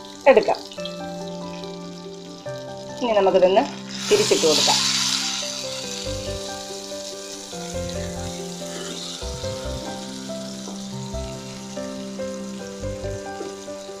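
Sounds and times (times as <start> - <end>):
background music: 0.0 - 14.0
fish sizzling in hot oil: 0.0 - 14.0.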